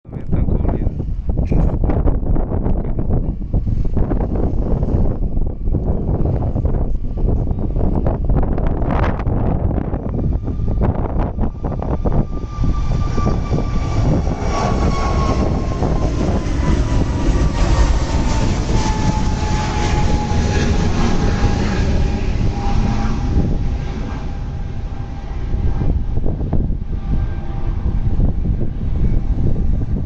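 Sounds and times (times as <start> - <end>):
jet airliner taking off: 0.1 - 30.0.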